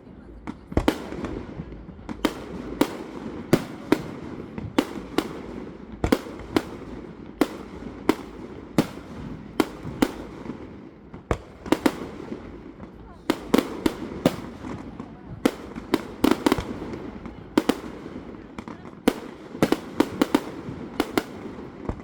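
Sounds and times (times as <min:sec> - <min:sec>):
fireworks bangs: 0:00.1 - 0:22.0.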